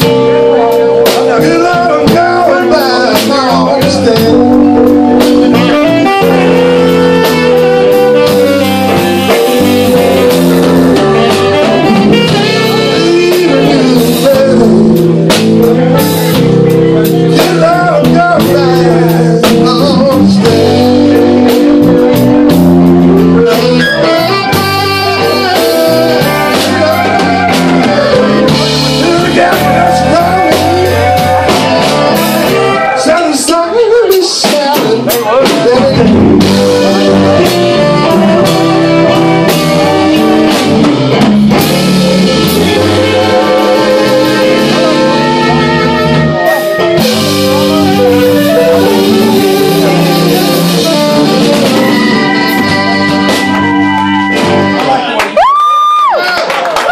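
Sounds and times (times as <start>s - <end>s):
blues band playing: 0.0s - 56.9s.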